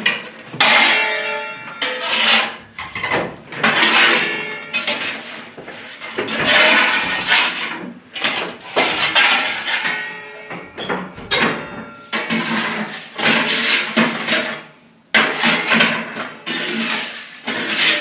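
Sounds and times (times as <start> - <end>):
metal peel scraping stone floor: 0.0 - 10.4, 11.5 - 18.0.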